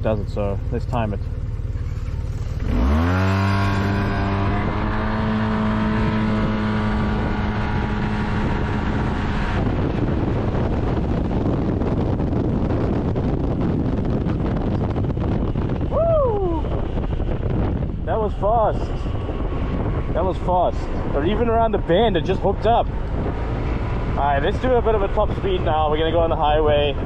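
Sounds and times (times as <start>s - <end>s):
scooter engine at full throttle: 0.0s - 27.0s
wind rush on microphone: 2.0s - 27.0s.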